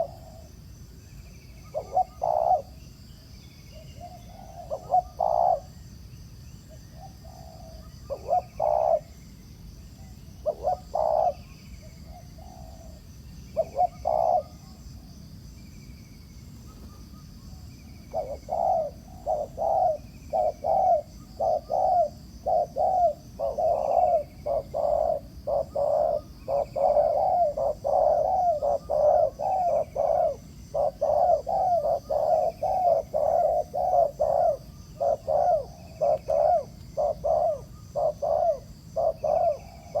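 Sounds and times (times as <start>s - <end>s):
doves cooing: 0.0s - 0.6s, 1.6s - 2.8s, 4.0s - 5.8s, 6.9s - 9.2s, 10.0s - 15.1s, 16.6s - 40.0s.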